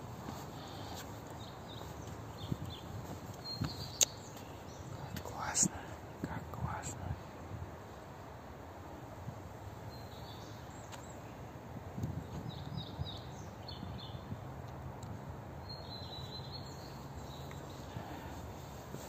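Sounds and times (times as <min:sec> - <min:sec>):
small birds chirping: 0:00.0 - 0:07.4, 0:09.6 - 0:19.0
outdoor background noise: 0:00.0 - 0:19.0.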